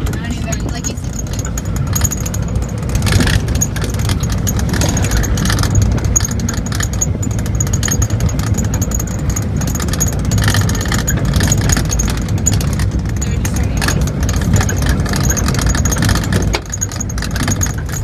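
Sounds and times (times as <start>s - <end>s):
rattling and clattering: 0.0s - 18.0s
vehicle rumbling on gravel road: 0.0s - 18.0s.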